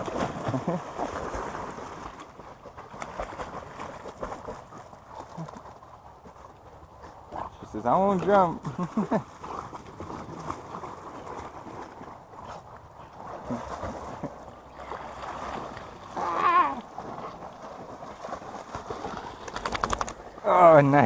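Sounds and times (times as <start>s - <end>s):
dogs splashing in water: 0.0s - 21.0s.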